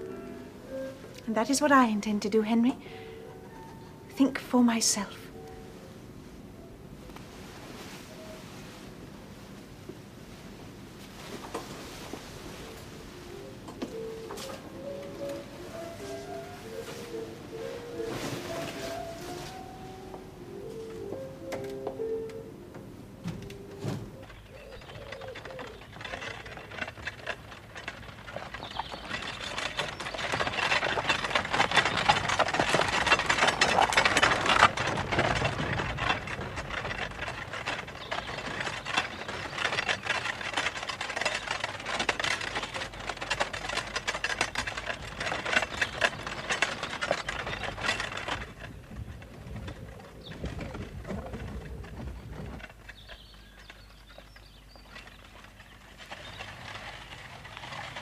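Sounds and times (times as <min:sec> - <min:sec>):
horse-drawn cart clattering: 0:00.0 - 0:05.8, 0:12.3 - 0:58.0.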